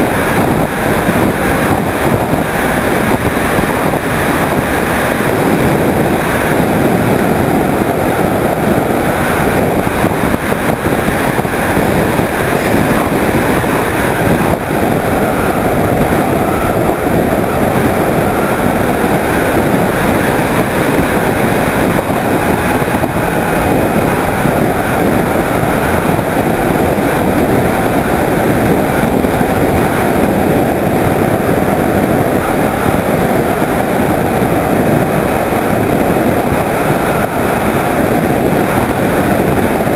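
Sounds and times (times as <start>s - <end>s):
model plane motor droning: 0.0s - 39.9s
wind rushing over camera: 0.0s - 39.9s.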